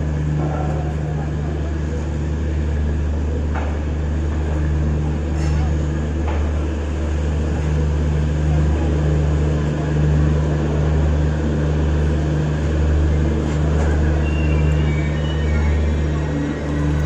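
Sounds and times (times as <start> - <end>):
train interior drone: 0.0 - 17.0.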